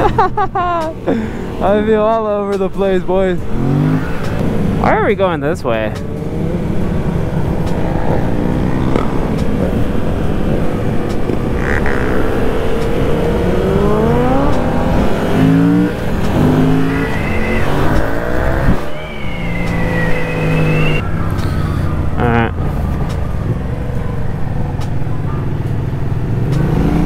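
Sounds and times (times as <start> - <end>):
motorcycle engine accelerating: 3.1 - 27.0.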